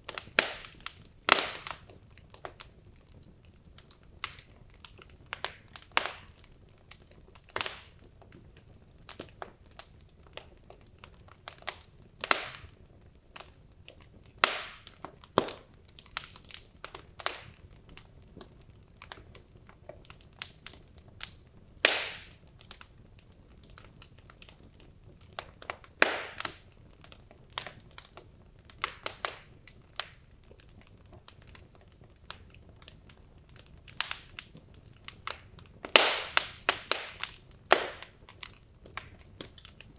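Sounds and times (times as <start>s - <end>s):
wood logs crackling in fireplace: 0.0s - 39.9s.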